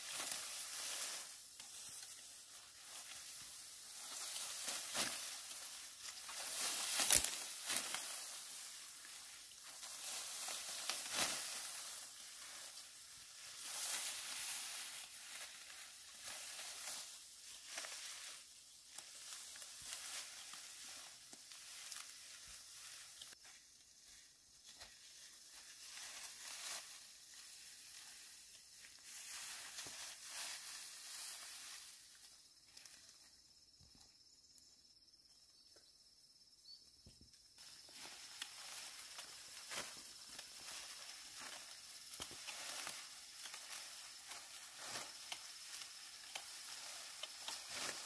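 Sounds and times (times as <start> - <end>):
rice plants rustling and swishing: 0.0 - 33.2, 37.6 - 48.0.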